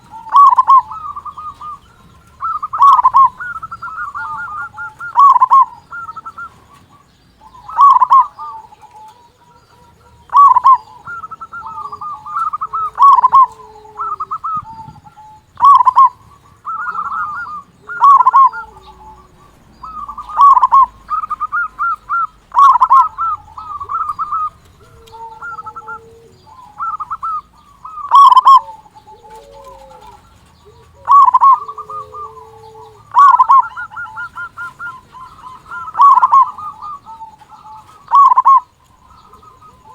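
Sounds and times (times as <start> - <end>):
dove trilled cooing: 0.0 - 39.9
faint low cooing notes: 0.0 - 39.9.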